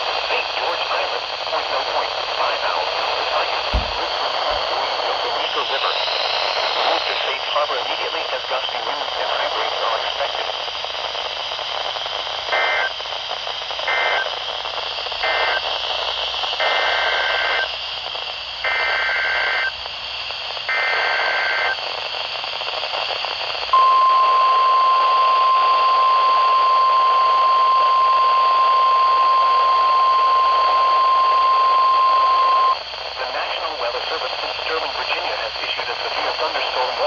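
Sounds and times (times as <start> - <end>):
steady weather radio alert tone: 0.0 - 14.5, 15.2 - 15.7, 16.6 - 17.7, 18.6 - 19.7, 23.8 - 37.0
radio background hiss: 0.0 - 37.0.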